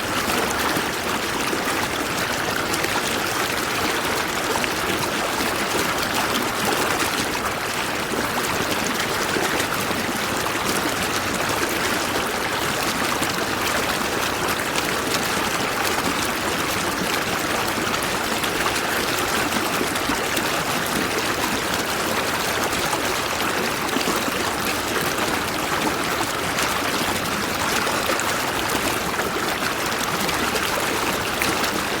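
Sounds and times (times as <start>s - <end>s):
stream water flowing over stones: 0.0s - 32.0s.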